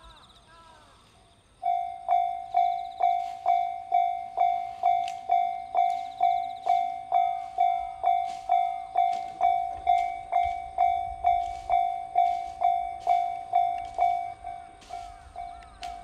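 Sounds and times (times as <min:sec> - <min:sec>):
level-crossing warning bell dinging: 0:01.6 - 0:16.0.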